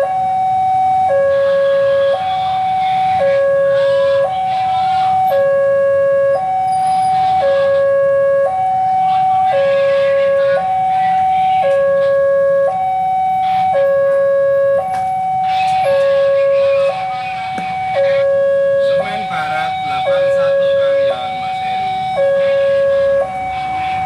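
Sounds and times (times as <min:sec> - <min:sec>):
level crossing two-tone alarm: 0:00.0 - 0:24.0
locomotive engine rumble: 0:00.0 - 0:24.0.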